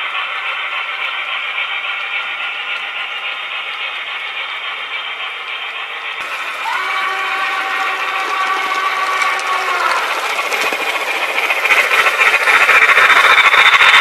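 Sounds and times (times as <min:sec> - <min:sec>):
model train clattering on track: 0:00.0 - 0:14.0.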